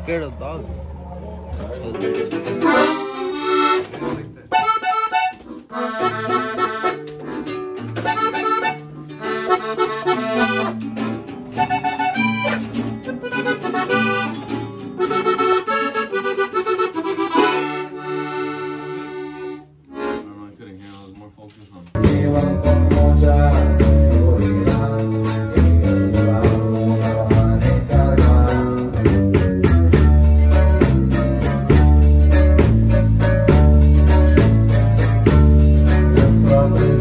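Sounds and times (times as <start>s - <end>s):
accordion melody: 1.9s - 20.6s, 22.0s - 37.0s.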